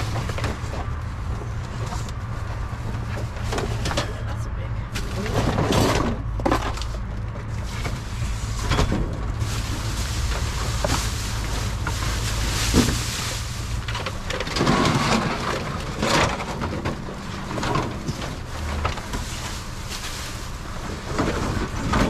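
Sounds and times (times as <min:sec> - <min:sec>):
low vehicle rumble: 0:00.0 - 0:22.0.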